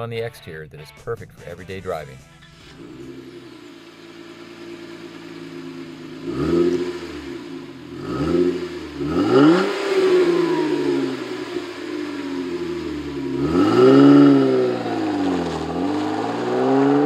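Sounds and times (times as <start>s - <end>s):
car engine idling and revving: 2.4s - 17.0s.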